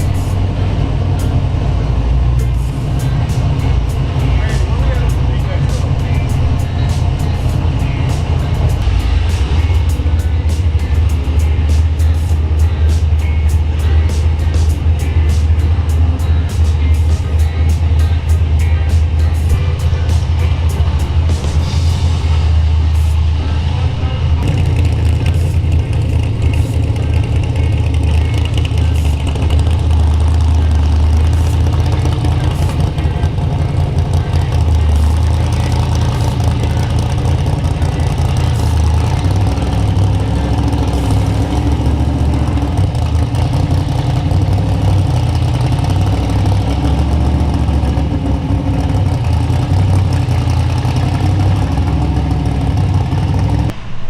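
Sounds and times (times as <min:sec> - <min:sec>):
car engines running: 0:00.0 - 0:54.0.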